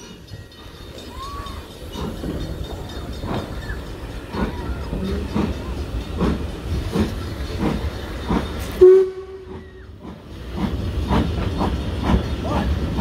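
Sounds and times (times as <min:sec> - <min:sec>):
train wheels clacking: 0:00.0 - 0:13.0.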